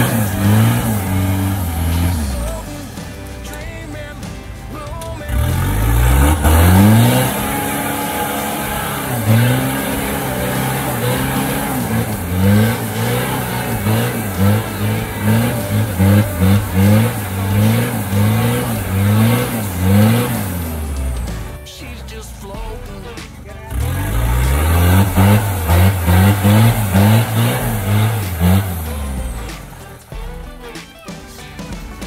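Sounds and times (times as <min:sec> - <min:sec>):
engine revving: 0:00.0 - 0:30.8.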